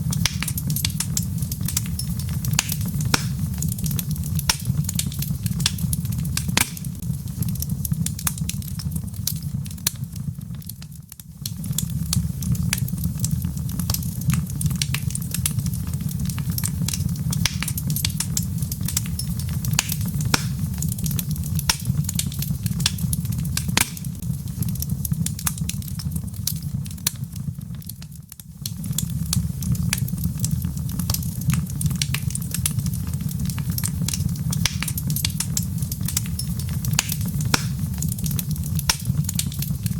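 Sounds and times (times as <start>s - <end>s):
logs crackling and popping: 0.0s - 39.9s
low fire rumble: 0.0s - 39.9s.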